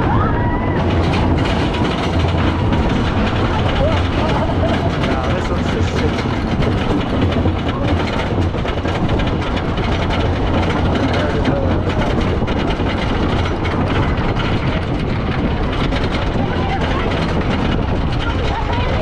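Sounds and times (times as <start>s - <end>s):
roller coaster rattling on track: 0.0s - 19.0s
wind buffeting microphone: 0.0s - 19.0s.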